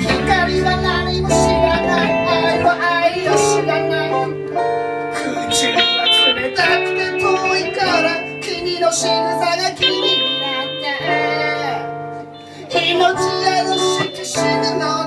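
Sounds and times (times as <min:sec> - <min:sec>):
guitar playing: 0:00.0 - 0:15.0
person singing: 0:00.0 - 0:15.0.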